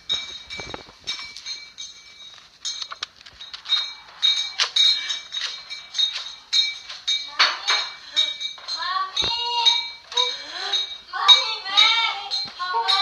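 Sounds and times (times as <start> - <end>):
sharp clinks and clicks: 0.0 - 13.0.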